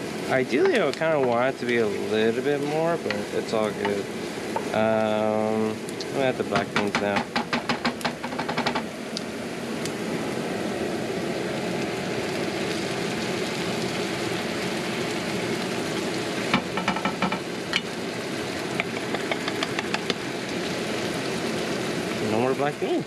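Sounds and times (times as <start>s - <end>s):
onions sizzling in a frying pan: 0.0s - 23.0s.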